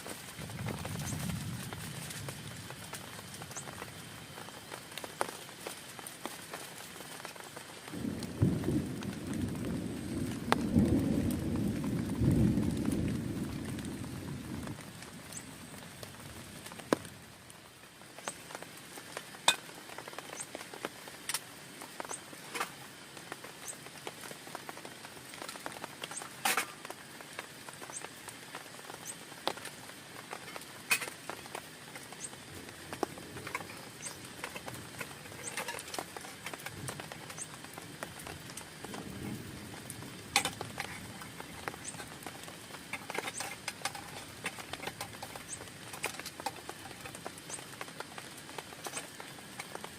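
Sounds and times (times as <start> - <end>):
rain on tent fabric: 0.0 - 49.9.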